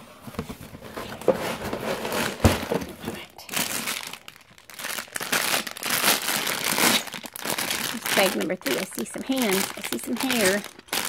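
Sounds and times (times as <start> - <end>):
plastic bags crinkling: 0.6 - 11.0.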